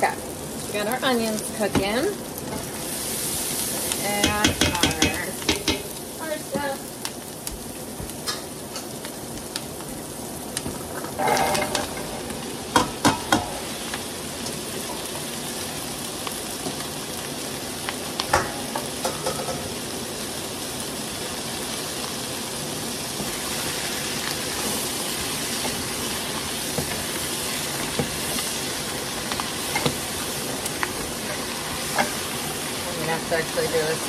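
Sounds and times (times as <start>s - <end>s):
onions sizzling in pot: 0.0s - 34.0s.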